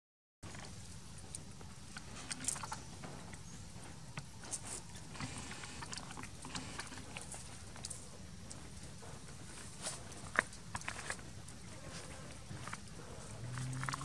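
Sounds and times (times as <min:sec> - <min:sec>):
small clicks and rustles: 0:00.5 - 0:14.0.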